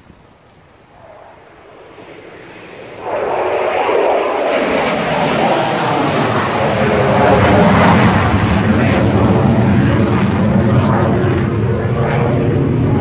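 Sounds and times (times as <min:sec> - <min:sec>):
aircraft flying low overhead: 0:00.8 - 0:13.0.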